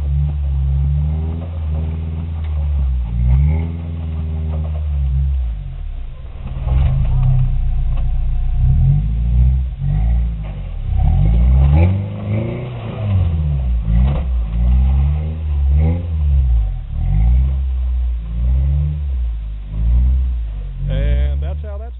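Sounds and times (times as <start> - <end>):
truck engine revving: 0.0 - 21.9.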